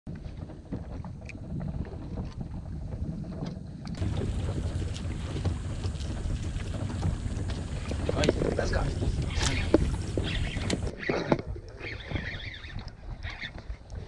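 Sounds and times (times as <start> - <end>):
wind buffeting microphone: 0.1 - 14.0
water lapping at boat: 0.3 - 14.0.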